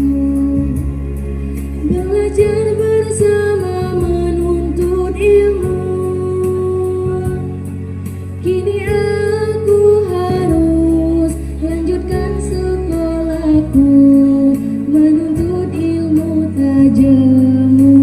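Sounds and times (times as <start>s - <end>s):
instrumental backing with beat: 0.0s - 18.0s
person singing slow melody: 0.0s - 18.0s.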